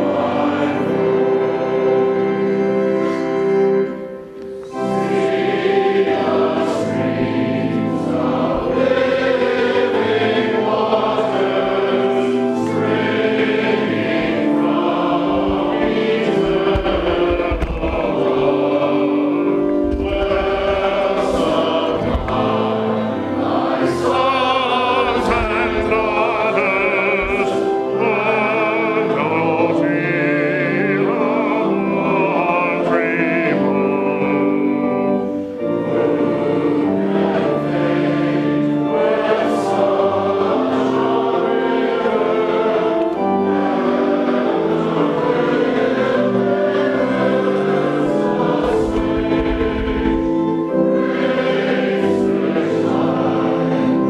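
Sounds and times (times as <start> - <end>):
choir singing: 0.0 - 54.0
organ chords: 0.0 - 54.0.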